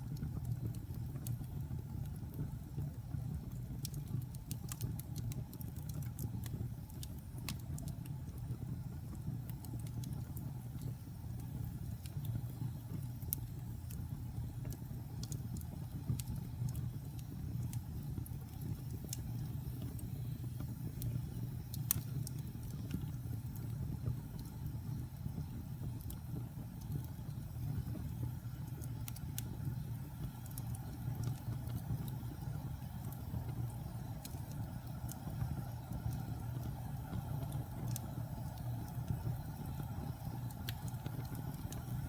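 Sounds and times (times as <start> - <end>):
low rumble of flames: 0.0 - 42.0
wood fire crackling and popping: 0.0 - 42.0.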